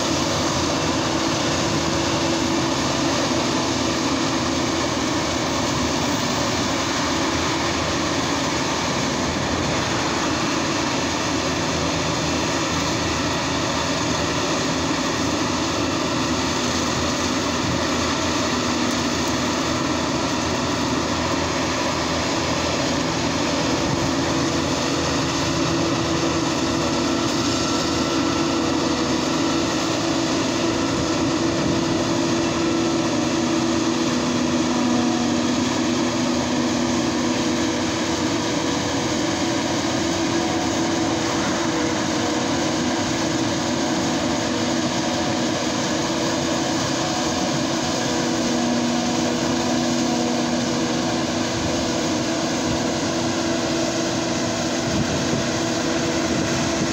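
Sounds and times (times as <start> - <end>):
forage harvester engine droning: 0.0 - 56.9
tractor engine: 0.0 - 56.9.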